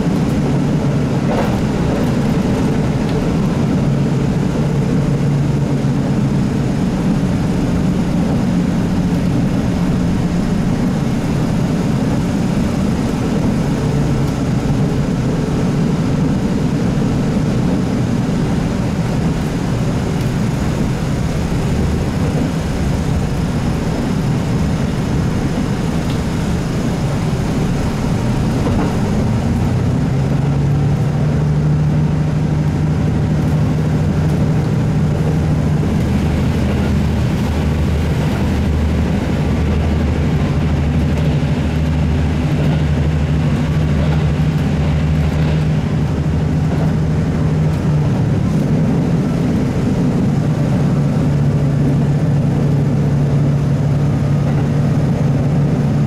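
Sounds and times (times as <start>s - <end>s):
diesel engine drone: 0.0s - 56.0s
train running noise: 0.0s - 56.0s.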